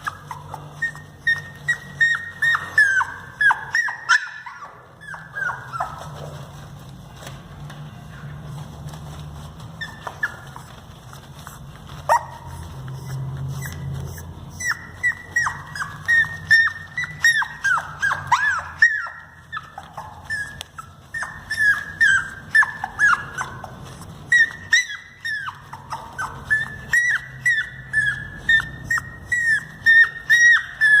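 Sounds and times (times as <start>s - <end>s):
puppy yipping: 0.0s - 31.0s.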